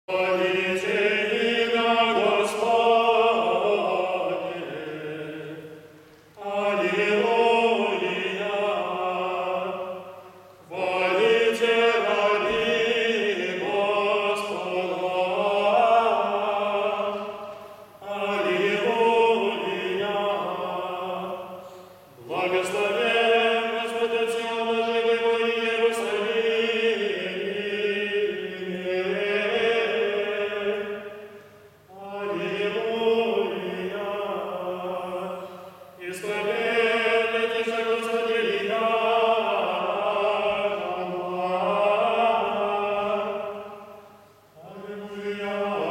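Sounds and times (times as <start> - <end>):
men chanting in harmony: 0.1 - 45.9.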